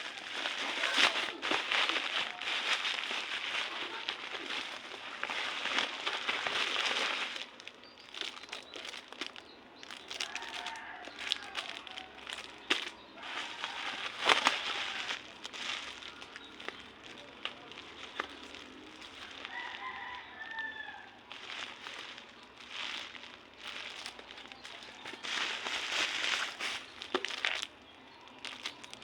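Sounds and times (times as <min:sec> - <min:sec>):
packaging crinkling and tearing: 0:00.0 - 0:29.0.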